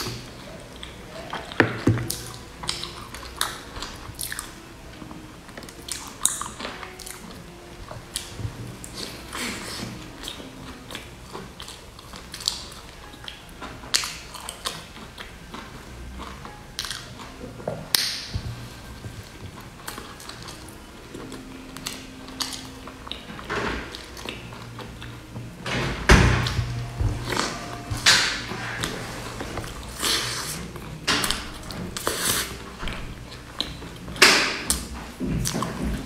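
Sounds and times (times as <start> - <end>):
close-miked chewing: 0.0 - 25.5, 26.4 - 36.0.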